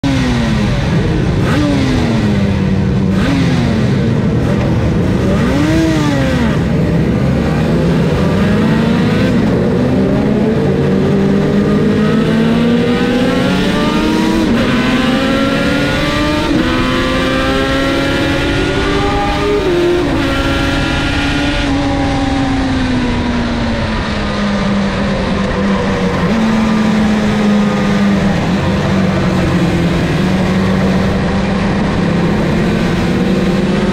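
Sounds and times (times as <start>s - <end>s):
two-stroke motorcycle engine revving: 0.0s - 33.9s.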